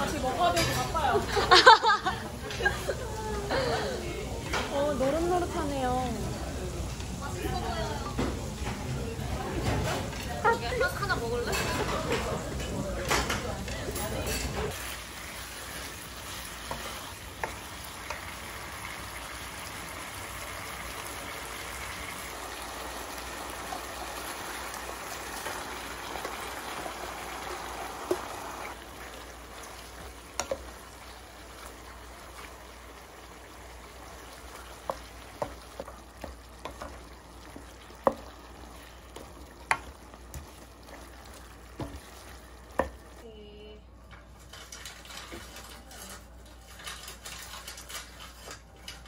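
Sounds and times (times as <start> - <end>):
chicken sizzling in a wok: 0.0 - 12.9, 13.5 - 43.8.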